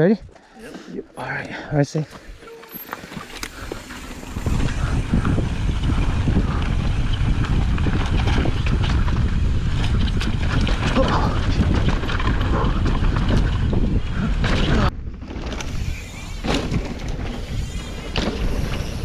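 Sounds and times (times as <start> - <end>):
bike clicks and rattles: 0.3 - 19.0
bike tyres rolling over dirt: 1.5 - 19.0
wind buffeting microphone: 2.1 - 19.0.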